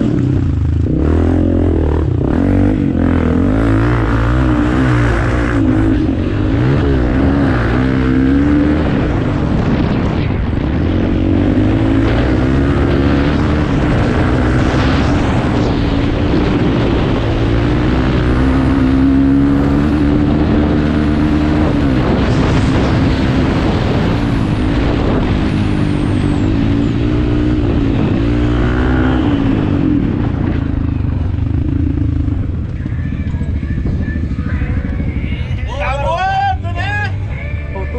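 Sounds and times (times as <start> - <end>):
off-road motorcycle engines revving: 0.0 - 37.9.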